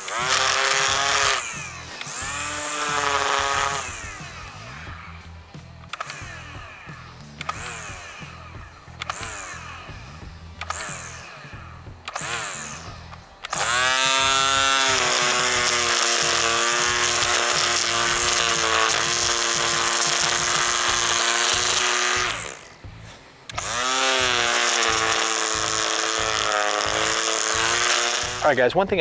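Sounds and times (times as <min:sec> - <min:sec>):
string trimmer motor whining: 0:00.0 - 0:28.7.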